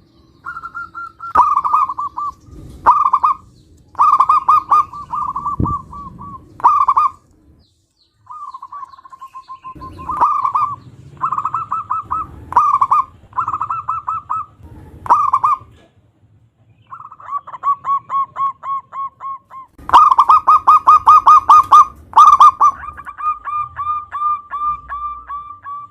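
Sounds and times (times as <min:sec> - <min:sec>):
doves cooing: 0:00.4 - 0:07.6, 0:08.2 - 0:15.9, 0:16.8 - 0:25.9.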